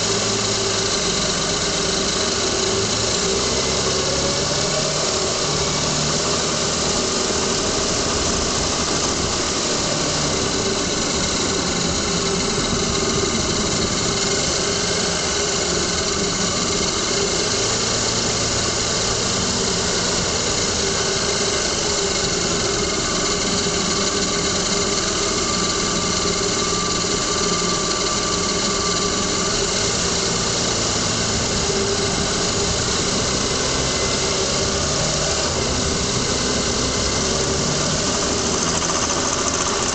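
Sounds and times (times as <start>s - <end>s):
car engine running: 0.0s - 39.9s
rattling ticking noise: 0.0s - 39.9s.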